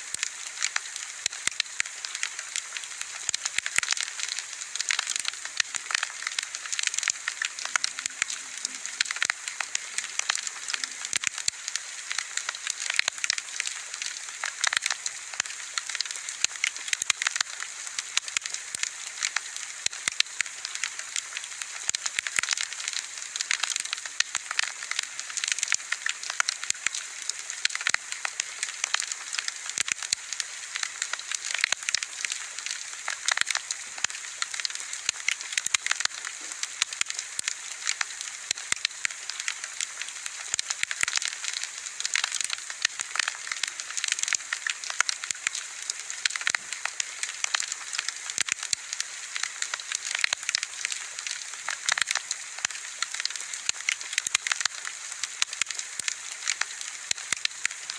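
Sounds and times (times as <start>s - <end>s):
bonfire crackling and popping: 0.0s - 57.9s.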